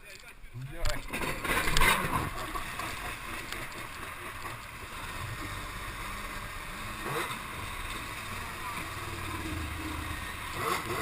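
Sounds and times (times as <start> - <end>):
rushing water: 0.4 - 11.0
jet ski engine drone: 1.0 - 11.0.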